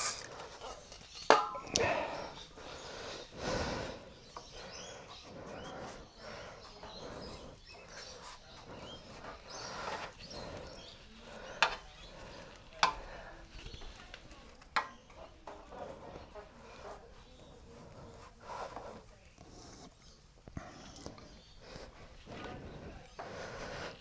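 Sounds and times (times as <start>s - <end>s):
effortful breathing: 0.0s - 24.0s.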